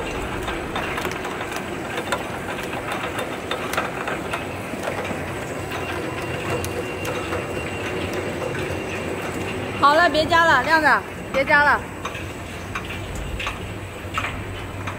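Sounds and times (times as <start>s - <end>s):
machine clicks and clatter: 0.0s - 14.9s
machine hum: 0.0s - 14.9s.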